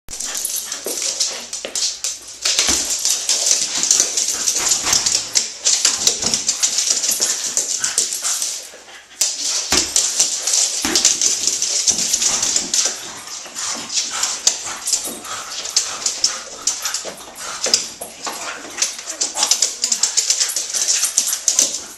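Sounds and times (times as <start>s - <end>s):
claws clicking on wooden floor: 0.1s - 21.9s.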